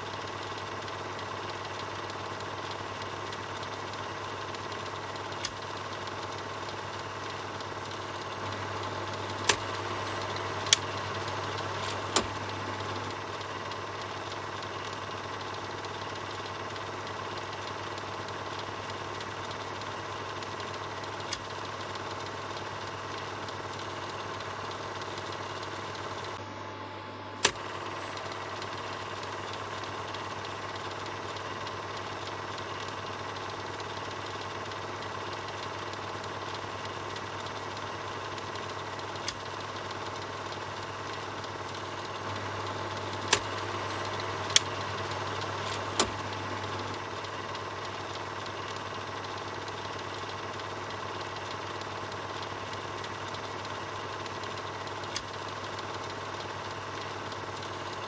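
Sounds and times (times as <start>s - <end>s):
film projector whirring: 0.0s - 58.0s
sharp projector clicks: 0.1s - 26.4s, 27.4s - 58.0s.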